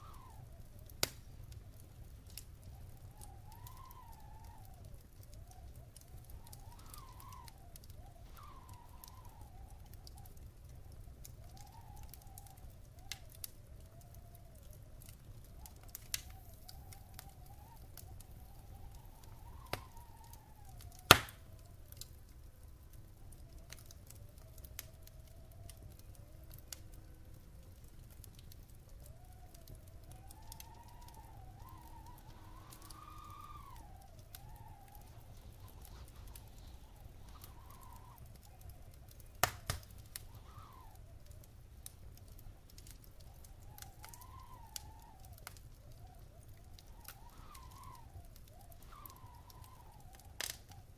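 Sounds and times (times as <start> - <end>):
faint wavering whistling tone: 0.0 - 21.9, 28.9 - 50.9
wood fire crackling: 0.0 - 50.9.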